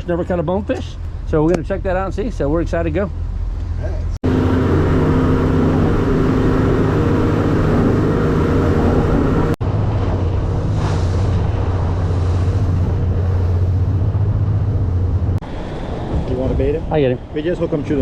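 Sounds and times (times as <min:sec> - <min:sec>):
boat engine humming: 0:00.0 - 0:16.2.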